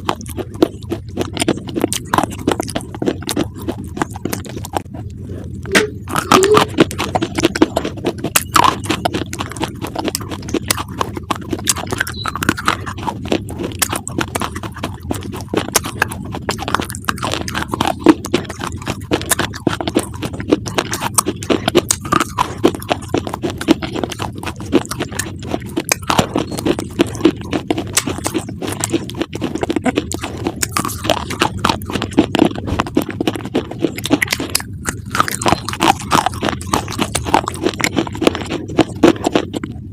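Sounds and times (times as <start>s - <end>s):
crunching crisp food being chewed: 0.0s - 39.9s.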